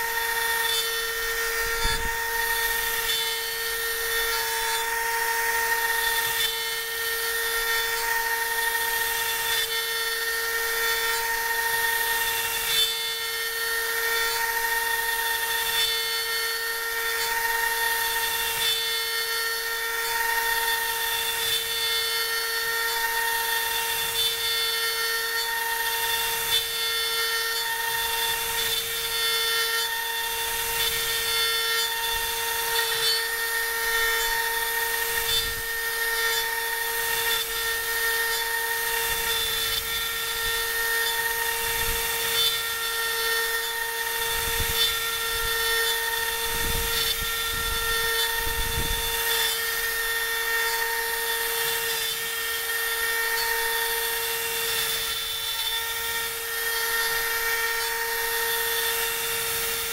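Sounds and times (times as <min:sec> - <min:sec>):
router spindle whine: 0:00.0 - 0:59.9.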